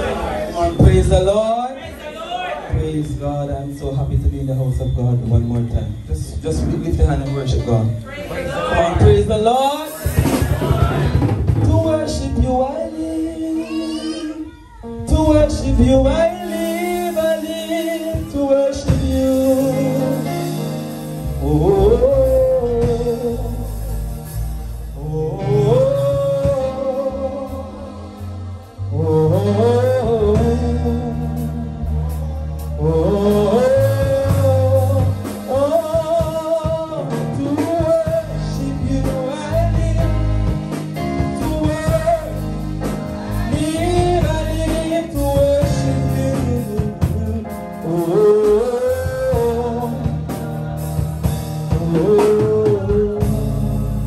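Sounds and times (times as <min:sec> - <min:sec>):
live church band: 0:00.0 - 0:54.0
man singing into microphone: 0:08.6 - 0:24.1, 0:24.9 - 0:54.0.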